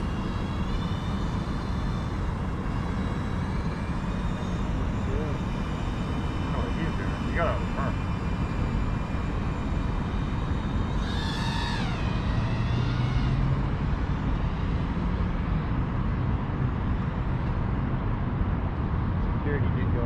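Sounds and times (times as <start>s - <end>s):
high whine falling in pitch: 0.0s - 17.5s
distant traffic: 0.0s - 20.0s
wind: 0.0s - 20.0s.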